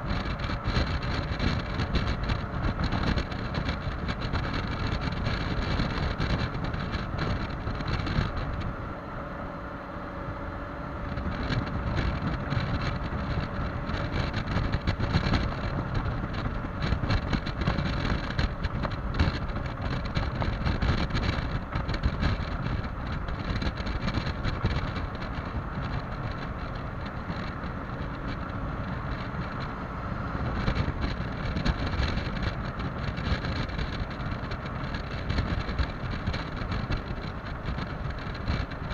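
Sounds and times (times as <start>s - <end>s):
scooter engine drone: 0.0s - 38.9s
wind buffeting microphone: 0.0s - 38.9s.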